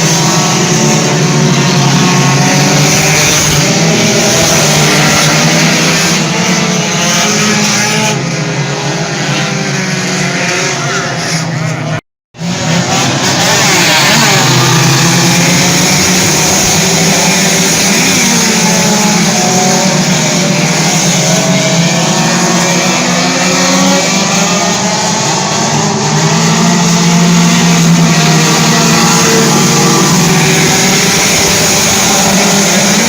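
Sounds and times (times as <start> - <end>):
race car engines at speed: 0.0 - 33.0.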